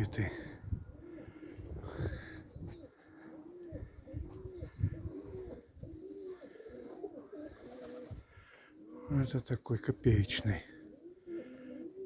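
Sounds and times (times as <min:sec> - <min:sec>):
pigeons cooing: 0:00.0 - 0:09.4, 0:10.0 - 0:12.0.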